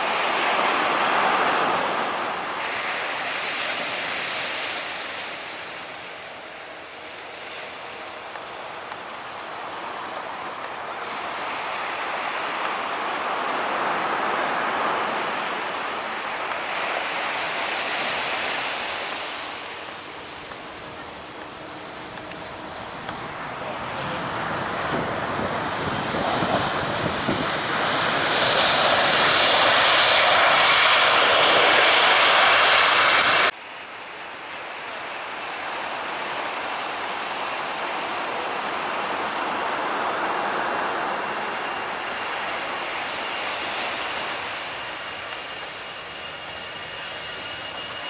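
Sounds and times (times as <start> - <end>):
aircraft engines passing overhead: 0.0 - 48.0.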